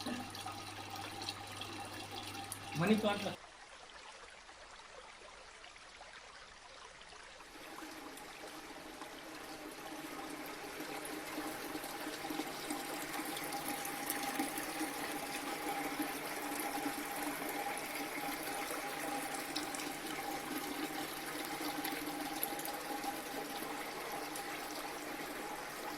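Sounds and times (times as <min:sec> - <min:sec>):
water fountain splashing: 0:00.0 - 0:03.4, 0:07.5 - 0:25.9.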